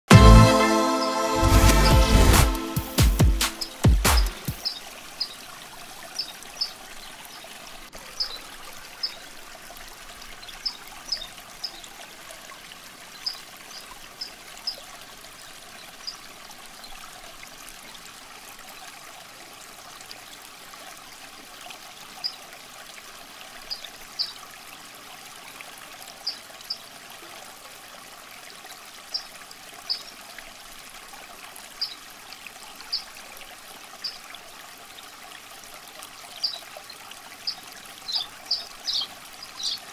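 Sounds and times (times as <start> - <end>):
water trickling: 3.6 - 39.9.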